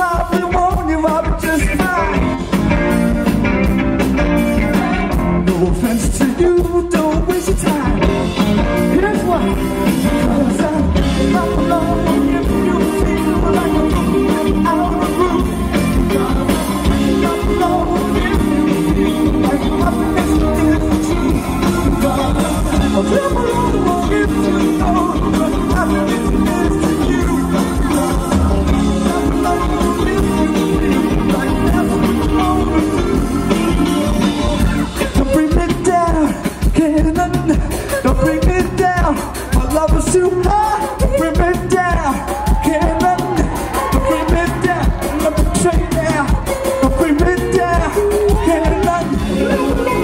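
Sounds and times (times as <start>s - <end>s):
man singing: 0.0s - 3.4s, 4.0s - 50.0s
live rock band: 0.0s - 50.0s.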